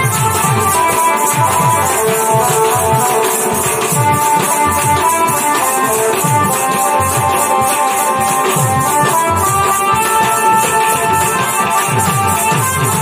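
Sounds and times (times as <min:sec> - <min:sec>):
drums: 0:00.0 - 0:13.0
held melody notes: 0:00.0 - 0:13.0.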